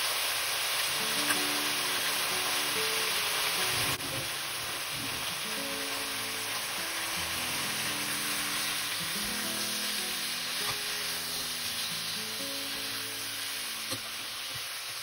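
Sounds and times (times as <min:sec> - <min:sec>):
chicken sizzling in a pan: 0:00.0 - 0:15.0
gentle background melody: 0:00.9 - 0:14.5.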